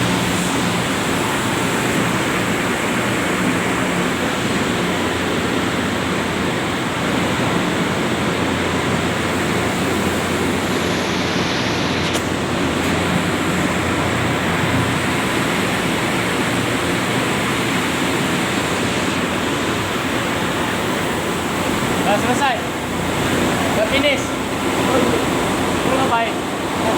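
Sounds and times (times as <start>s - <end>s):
ship engines running: 0.0s - 26.9s.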